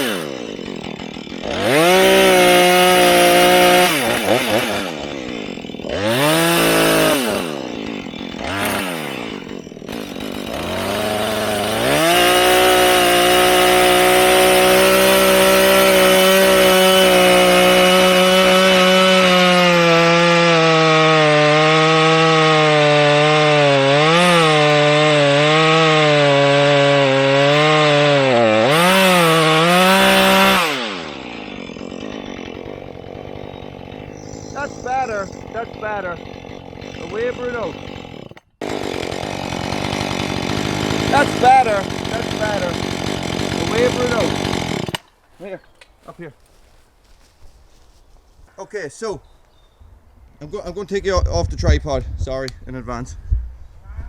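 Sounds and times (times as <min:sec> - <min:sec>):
chainsaw cutting a tree: 0:00.0 - 0:45.4.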